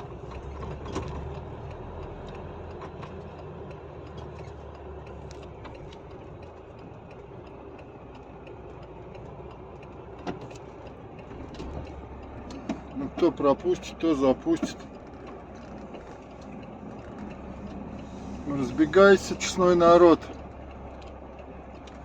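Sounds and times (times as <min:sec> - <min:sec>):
road noise: 0:00.0 - 0:22.0
truck engine running: 0:00.0 - 0:22.0.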